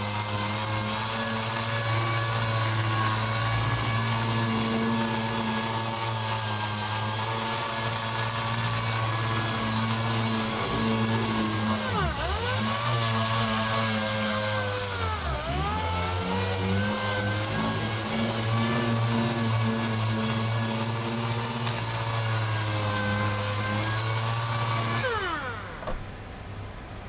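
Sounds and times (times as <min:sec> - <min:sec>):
air-powered sander running: 0:00.0 - 0:26.0.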